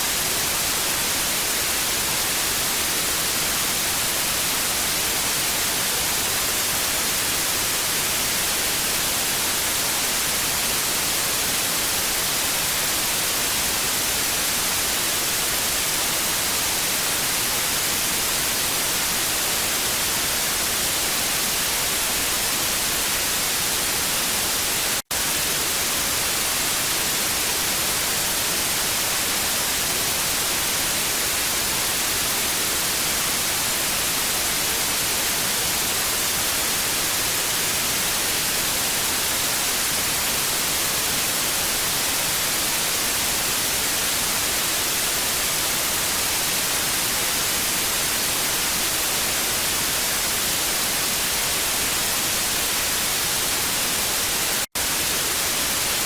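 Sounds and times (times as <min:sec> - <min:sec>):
tv static hiss: 0:00.0 - 0:56.0.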